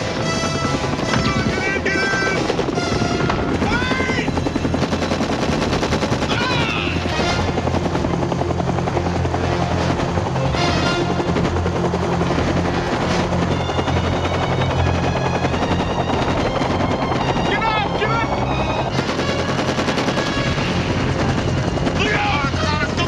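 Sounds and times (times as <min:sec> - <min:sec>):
helicopter rotor beating: 0:00.0 - 0:23.0
helicopter turbine: 0:00.0 - 0:23.0.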